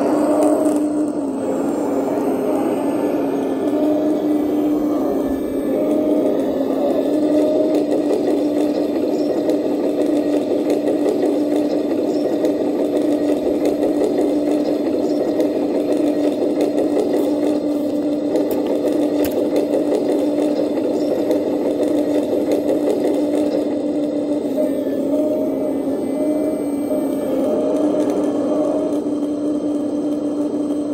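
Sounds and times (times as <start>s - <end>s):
small motor whining: 0.0s - 30.9s.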